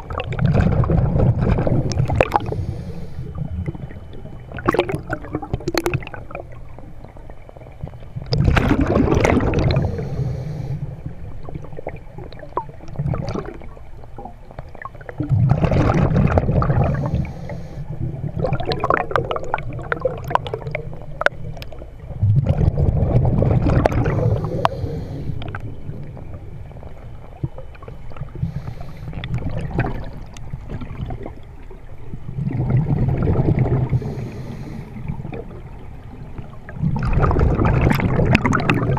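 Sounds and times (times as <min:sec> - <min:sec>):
crackling bubble fizz: 0:00.0 - 0:38.9
exhaled bubbles rushing underwater: 0:00.0 - 0:38.9.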